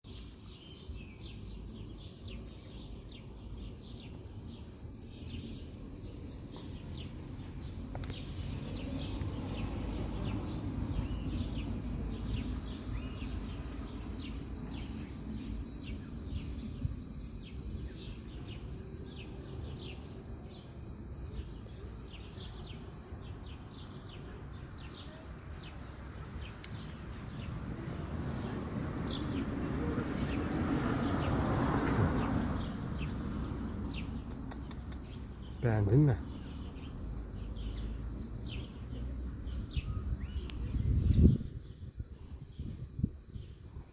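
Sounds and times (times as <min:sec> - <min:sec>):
small birds chirping: 0:00.0 - 0:43.9
low outdoor rumble: 0:01.0 - 0:43.9.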